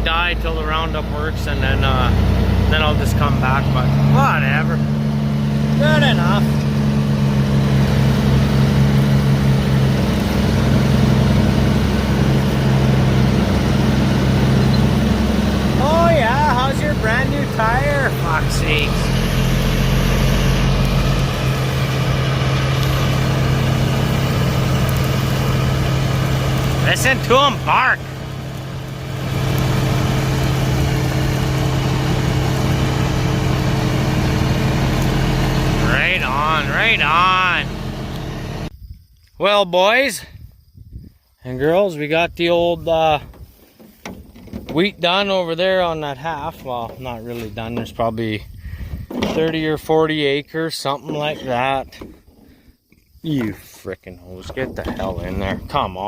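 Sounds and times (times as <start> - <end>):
combine harvester droning: 0.0 - 38.8, 42.3 - 56.0.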